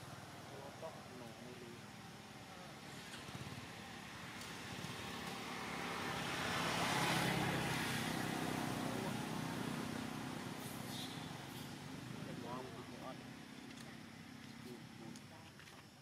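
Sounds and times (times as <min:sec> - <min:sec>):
vehicle passing by: 0:00.0 - 0:15.3.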